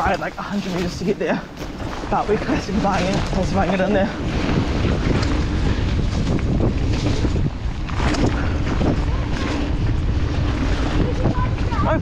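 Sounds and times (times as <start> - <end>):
bike knocks and rattles: 0.0 - 12.0
wind rushing over microphone: 0.0 - 12.0.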